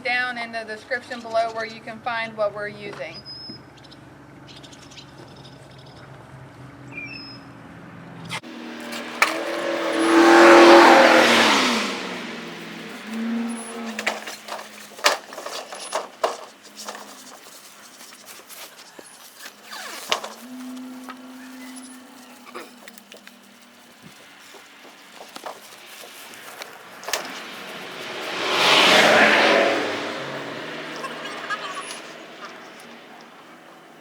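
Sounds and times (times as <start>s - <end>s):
vehicle passing by: 5.6s - 18.7s, 19.4s - 34.0s.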